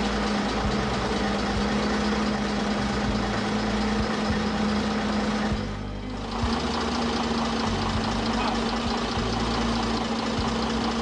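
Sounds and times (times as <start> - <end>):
bus engine idling: 0.0 - 11.0
cooling fan spinning: 0.0 - 11.0.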